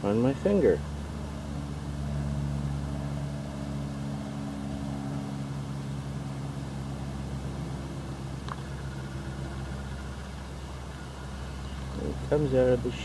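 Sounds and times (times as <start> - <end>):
faint higher whine: 0.0 - 13.0
low mechanical motor hum: 0.0 - 13.0.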